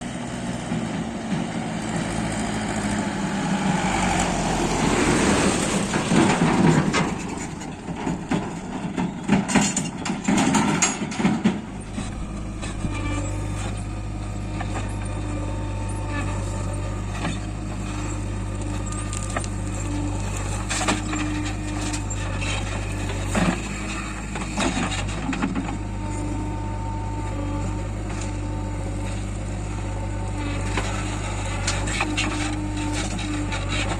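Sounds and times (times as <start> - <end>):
diesel engine working: 0.0 - 33.9.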